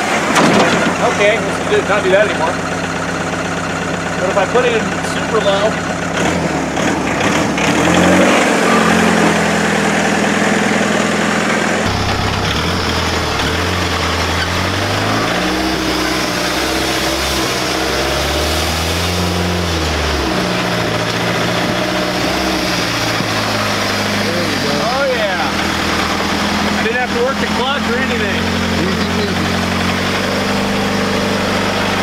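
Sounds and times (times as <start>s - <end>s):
car engine pulling at low revs: 0.0s - 32.0s.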